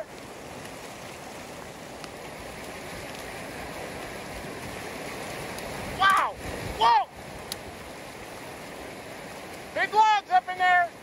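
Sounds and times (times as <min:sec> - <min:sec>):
muddy water rushing: 0:00.0 - 0:11.0.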